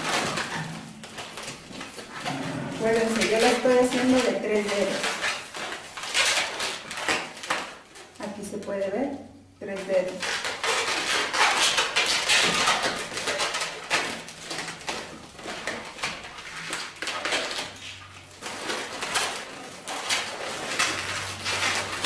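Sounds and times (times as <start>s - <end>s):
balloons rubbing together: 0.0s - 7.5s, 9.9s - 22.0s.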